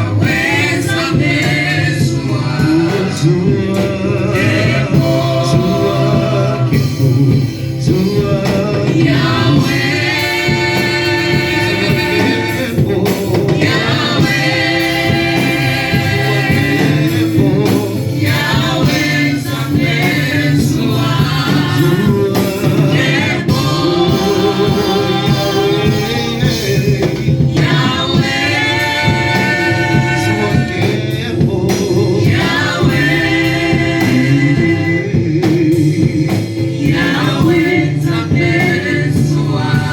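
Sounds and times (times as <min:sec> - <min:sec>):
instrumental backing: 0:00.0 - 0:39.9
voices singing: 0:00.0 - 0:39.9.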